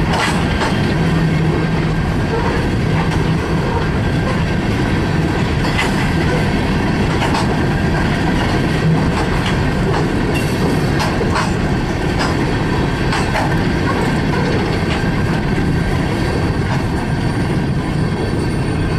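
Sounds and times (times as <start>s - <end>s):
wheels clacking over rail joints: 0.0s - 17.3s
train wheels rumbling on rail: 0.0s - 18.9s.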